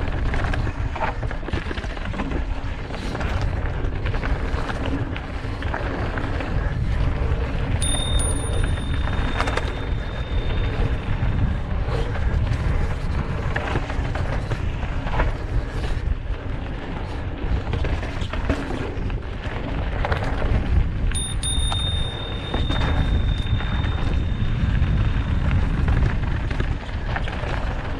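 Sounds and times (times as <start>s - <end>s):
wind buffeting: 5.4s - 27.9s.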